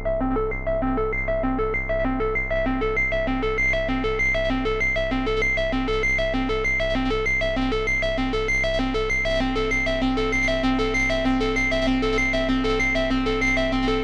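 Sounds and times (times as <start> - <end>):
low bass drone: 0.0 - 14.0.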